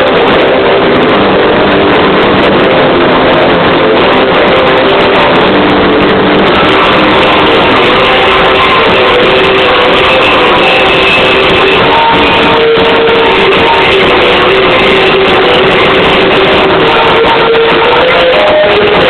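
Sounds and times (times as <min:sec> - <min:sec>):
guitar-driven rock music: 0:00.0 - 0:19.0
strummed guitar: 0:00.0 - 0:19.0.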